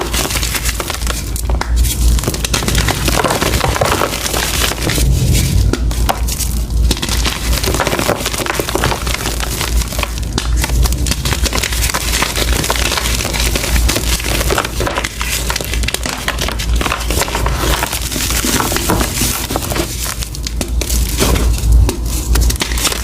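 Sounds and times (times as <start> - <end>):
chalk being crushed: 0.0 - 23.0.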